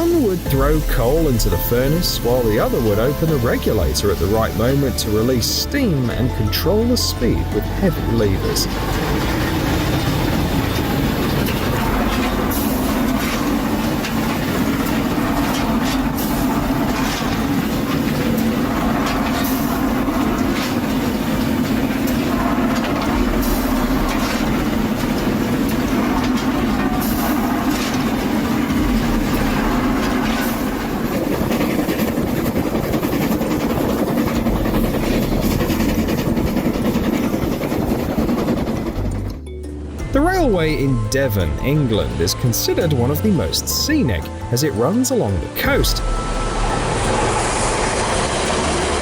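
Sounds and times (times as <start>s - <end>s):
train rumbling on track: 0.0s - 49.0s
train wheels clacking: 0.0s - 49.0s.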